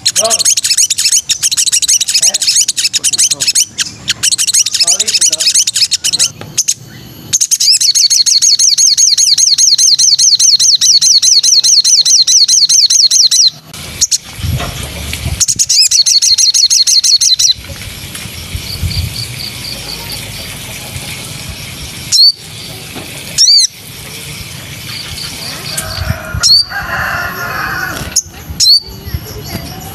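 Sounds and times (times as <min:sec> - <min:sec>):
songbird trilling: 0:00.0 - 0:14.4, 0:15.4 - 0:29.9.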